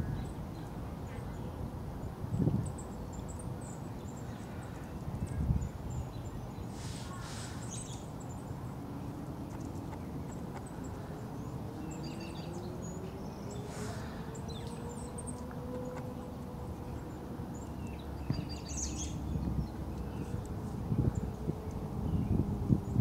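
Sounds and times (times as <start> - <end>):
small birds chirping: 0.0 - 23.0
low outdoor rumble: 3.6 - 23.0.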